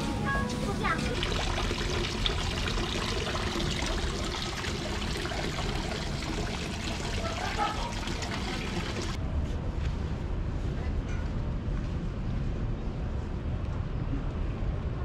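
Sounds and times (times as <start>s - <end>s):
wet street ambience: 0.0s - 15.0s.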